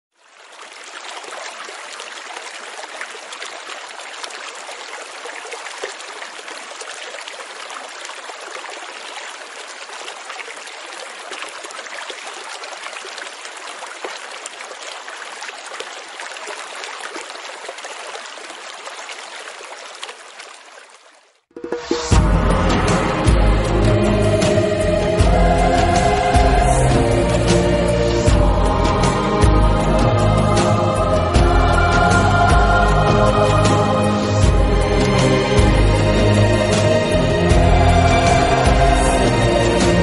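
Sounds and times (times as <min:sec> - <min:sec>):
running bubbling water: 0:00.1 - 0:40.0.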